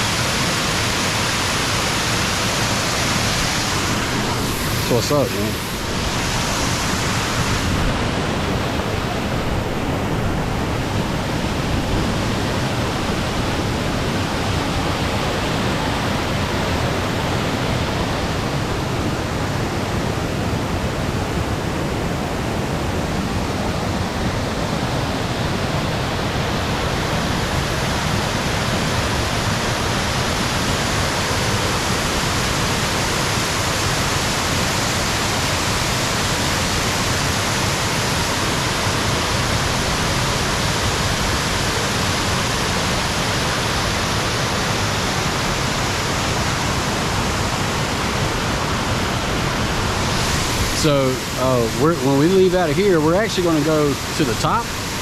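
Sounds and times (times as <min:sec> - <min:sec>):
waterfall crashing: 0:00.0 - 0:55.0.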